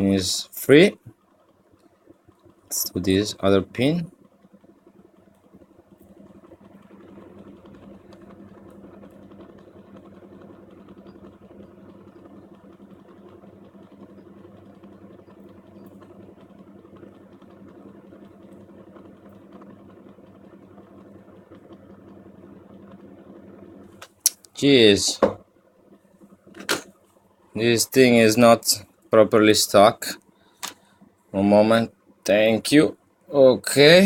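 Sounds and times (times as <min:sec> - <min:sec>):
electric fan humming: 0:00.0 - 0:34.0.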